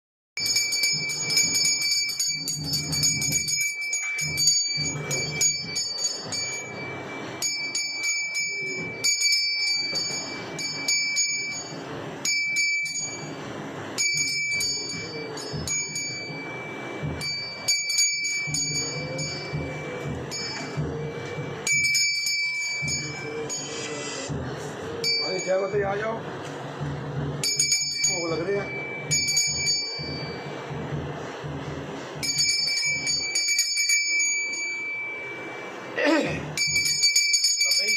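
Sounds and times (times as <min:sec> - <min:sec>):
brass hand bell ringing: 0:00.4 - 0:13.4, 0:14.0 - 0:23.8, 0:27.4 - 0:30.5, 0:32.2 - 0:35.7, 0:36.6 - 0:37.9.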